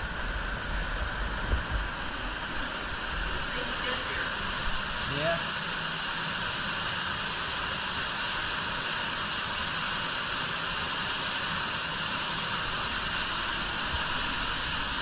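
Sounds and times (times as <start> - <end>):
underground waterfall rushing: 0.0 - 15.0.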